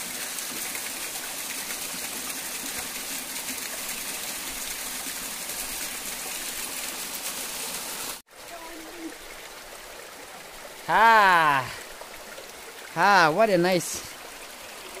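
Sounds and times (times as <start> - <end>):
waterfall splashing: 0.0 - 15.0.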